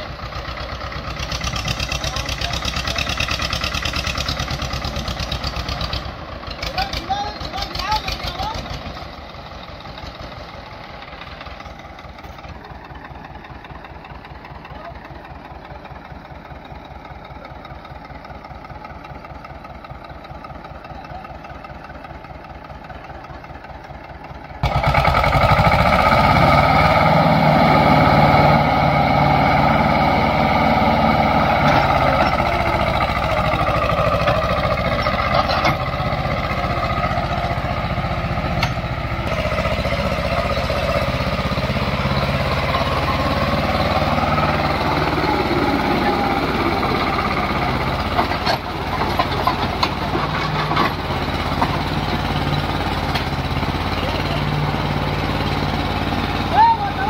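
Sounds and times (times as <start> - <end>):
diesel tractor engine: 0.0 - 57.0.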